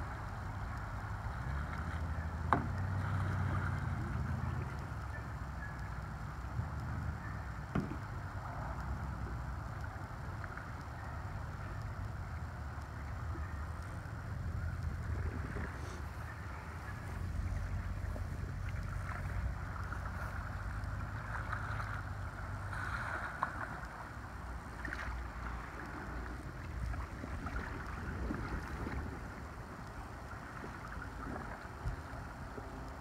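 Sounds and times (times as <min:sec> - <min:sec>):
creek water washing: 0:00.0 - 0:33.0
wind rumbling on microphone: 0:00.0 - 0:33.0
faint paddle splashes and knocks: 0:01.3 - 0:05.1, 0:07.5 - 0:12.0, 0:14.7 - 0:32.9.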